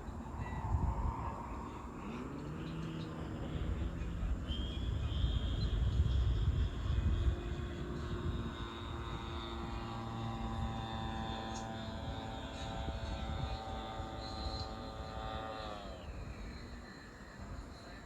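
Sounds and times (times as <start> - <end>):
model airplane motor droning: 0.0 - 18.0.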